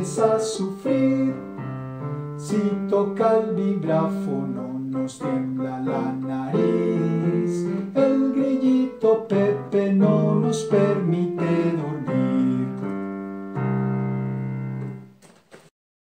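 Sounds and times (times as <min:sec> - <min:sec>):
piano playing: 0:00.0 - 0:15.2.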